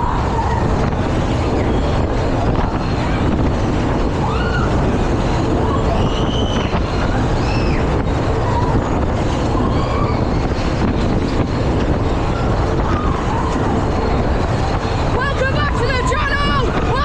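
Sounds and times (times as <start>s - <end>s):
thrill ride machinery rushing: 0.0s - 17.0s.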